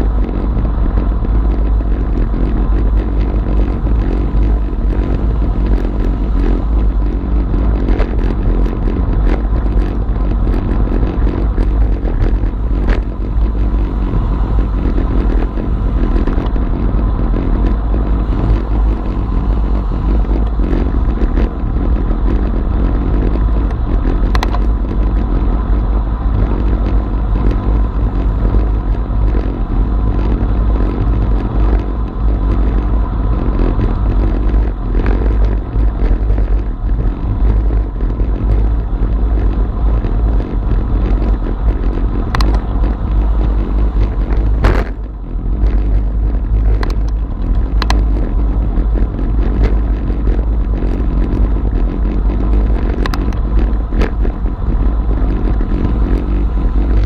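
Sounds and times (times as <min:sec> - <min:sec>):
road and tyre noise: 0:00.0 - 0:57.0
wind buffeting microphone: 0:00.0 - 0:57.0.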